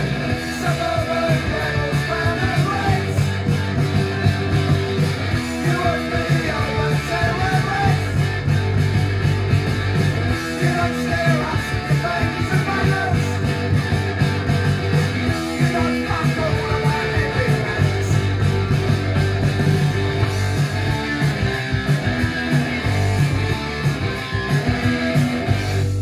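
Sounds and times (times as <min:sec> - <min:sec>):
punk rock from vinyl record: 0:00.0 - 0:26.0.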